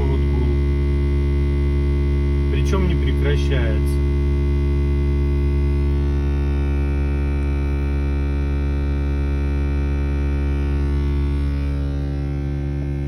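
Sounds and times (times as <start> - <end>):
electrical hum: 0.0 - 13.0
faint high whine: 0.0 - 13.0.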